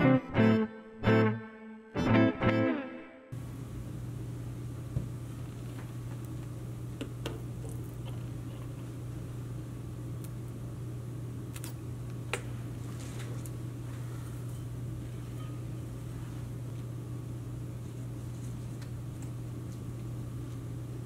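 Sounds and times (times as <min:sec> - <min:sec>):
steady low hum: 0:03.4 - 0:21.0.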